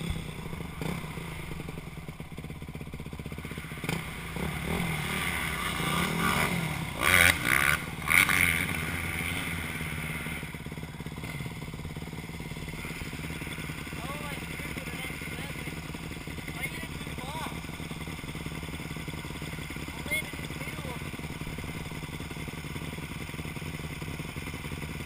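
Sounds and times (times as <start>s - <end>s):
dirt bike engine running steadily: 0.0s - 25.0s
dirt bike revving: 0.0s - 25.0s.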